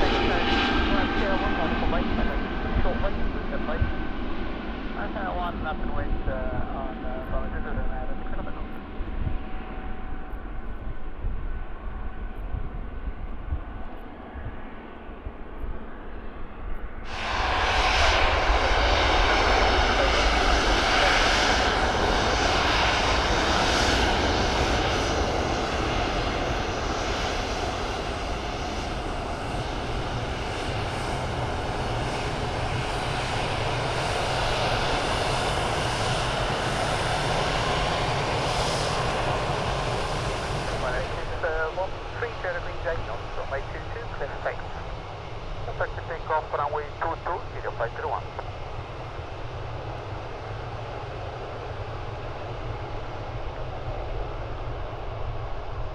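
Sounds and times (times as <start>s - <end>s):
jet engines rushing: 0.0s - 55.9s.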